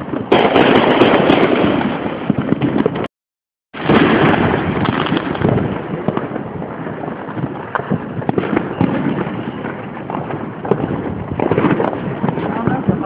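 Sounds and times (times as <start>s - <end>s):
fireworks crackling and banging: 0.0s - 3.1s, 3.8s - 13.0s.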